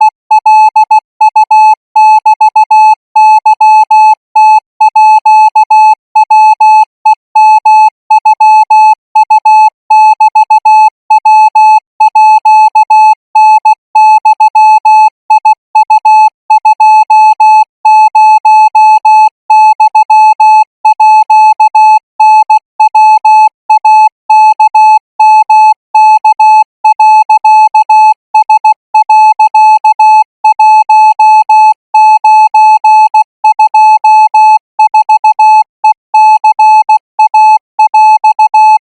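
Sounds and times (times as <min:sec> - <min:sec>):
morse code beeps: 0:00.0 - 0:38.8.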